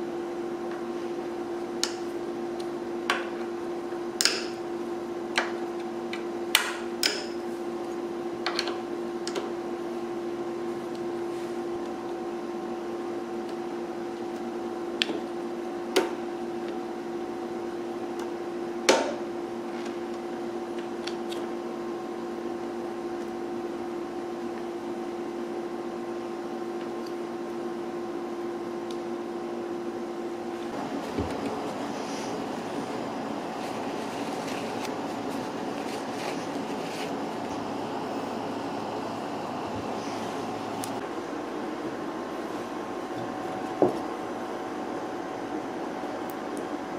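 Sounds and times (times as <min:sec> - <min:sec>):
steady background hum: 0:00.0 - 0:46.9.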